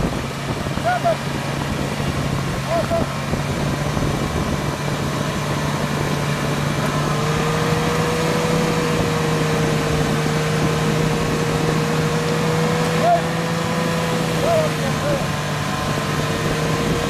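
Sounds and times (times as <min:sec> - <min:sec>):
suv engine straining: 0:00.0 - 0:17.0
wheels churning water: 0:00.0 - 0:17.0.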